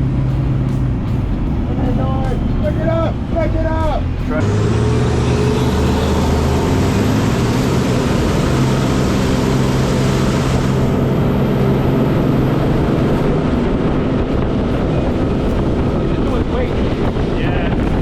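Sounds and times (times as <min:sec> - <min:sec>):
boat diesel engine running: 0:00.0 - 0:18.0.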